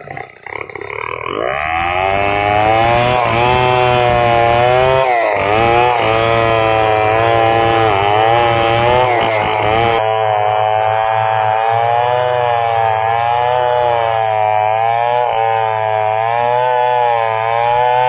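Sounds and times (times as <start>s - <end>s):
chainsaw cutting through log: 0.0s - 18.0s.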